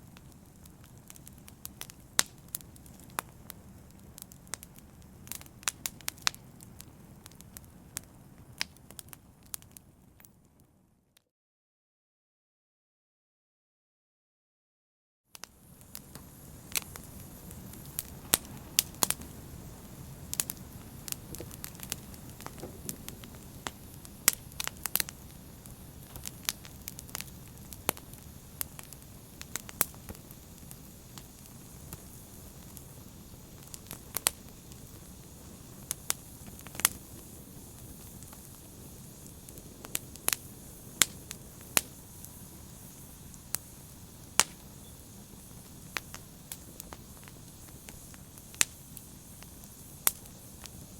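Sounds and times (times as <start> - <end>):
fire crackling and popping: 0.0 - 10.8, 15.3 - 50.9.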